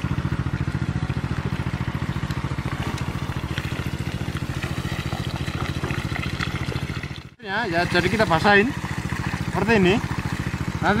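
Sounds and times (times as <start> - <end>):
diesel pump engine running: 0.0 - 11.0.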